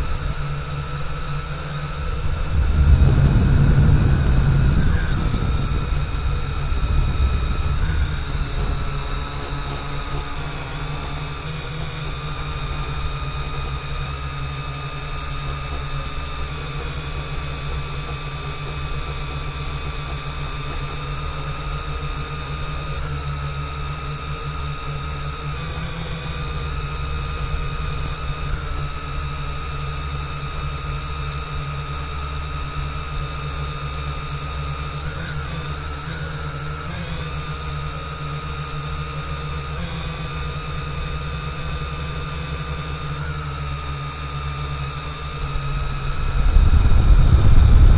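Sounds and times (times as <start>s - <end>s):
drone propellers whining: 0.0s - 47.9s
wind rumble on microphone: 0.0s - 47.9s.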